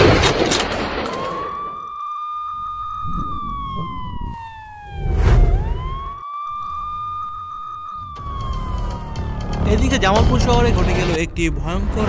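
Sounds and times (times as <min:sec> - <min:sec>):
police siren wailing: 0:00.7 - 0:11.2.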